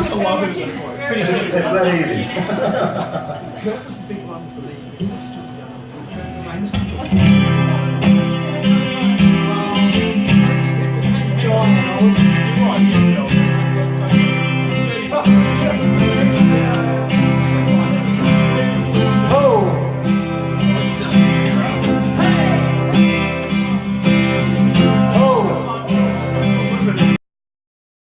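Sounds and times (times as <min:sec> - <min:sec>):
strummed acoustic guitar: 0:00.0 - 0:27.2.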